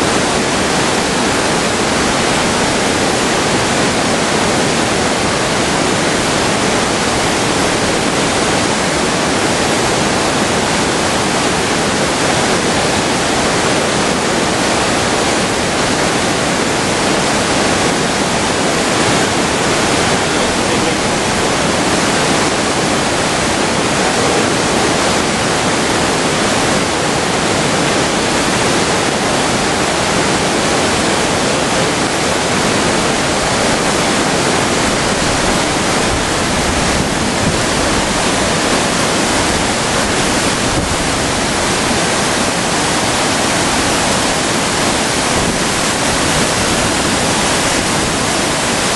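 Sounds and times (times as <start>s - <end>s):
river rapids roaring: 0.0s - 48.9s.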